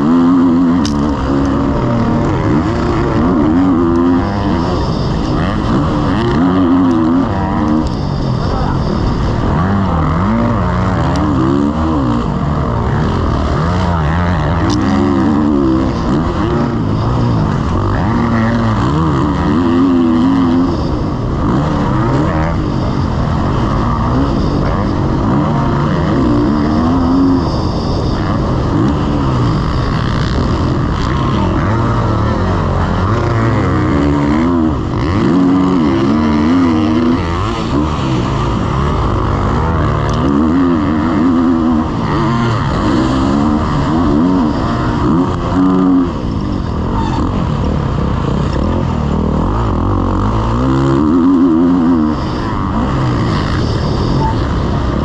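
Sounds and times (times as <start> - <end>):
motocross bike engine racing: 0.0 - 55.0.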